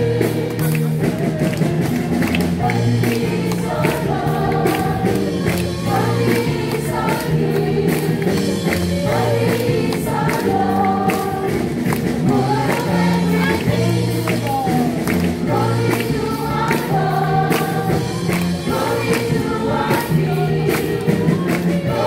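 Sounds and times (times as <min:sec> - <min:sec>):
band with steady beat: 0:00.0 - 0:22.0
group of voices singing gospel: 0:00.0 - 0:22.0.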